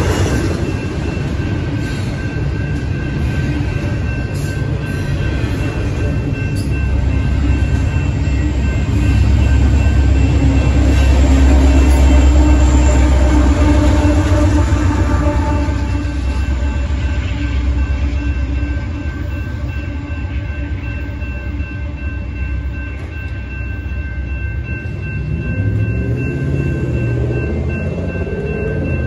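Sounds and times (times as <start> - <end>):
crossing bell ringing: 0.0 - 29.0
deep locomotive engine: 0.0 - 29.0
freight train rumbling past: 0.0 - 29.0.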